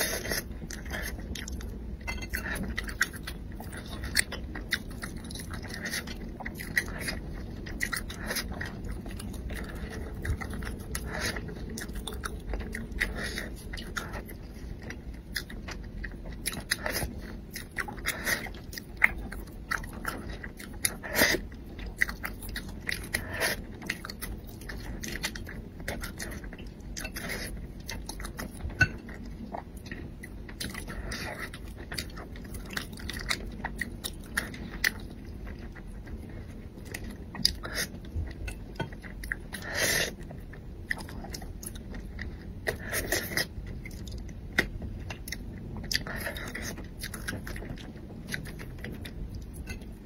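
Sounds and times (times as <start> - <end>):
person chewing: 0.0 - 50.0.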